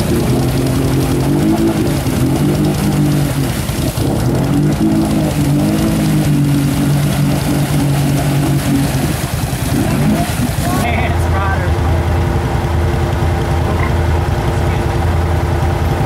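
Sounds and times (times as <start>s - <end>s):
wheels spinning in mud: 0.0s - 14.0s
quad engine revving high: 0.0s - 16.0s.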